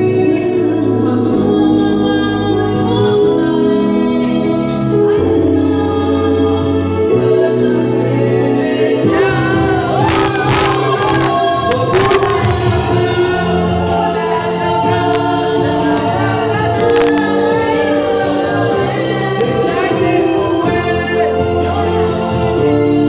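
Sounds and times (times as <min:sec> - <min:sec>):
group singing into microphone: 0:00.0 - 0:23.0
loud backing music: 0:00.0 - 0:23.0.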